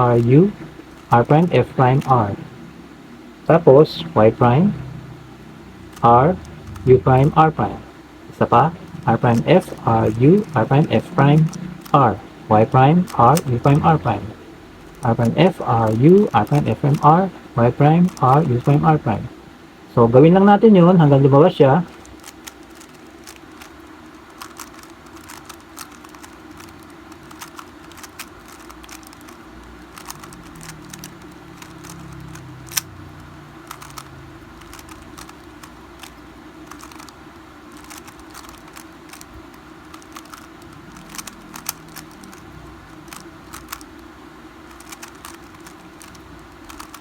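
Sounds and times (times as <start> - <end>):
puzzle cube plastic clicks: 0.0 - 2.4, 5.9 - 7.8, 8.4 - 19.2, 21.9 - 44.1, 44.7 - 47.0.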